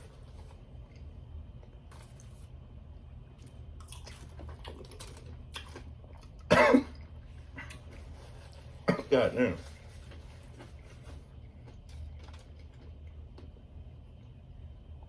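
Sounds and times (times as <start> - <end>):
faint chewing: 0.0 - 2.6, 3.2 - 8.9, 9.5 - 14.4
low steady hum: 0.0 - 15.0.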